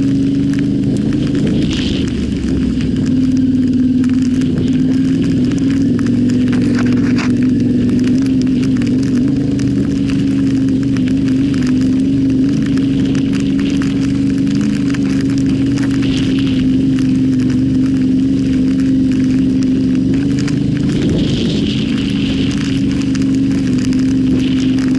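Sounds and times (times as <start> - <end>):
motorcycle engine running: 0.0 - 24.9
small clicks and crackles: 0.0 - 24.9.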